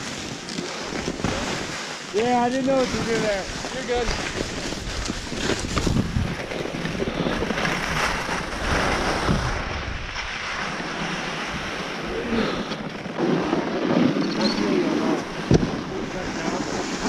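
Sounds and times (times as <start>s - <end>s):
skis scraping over snow: 0.0s - 17.0s
wind on microphone: 0.0s - 17.0s.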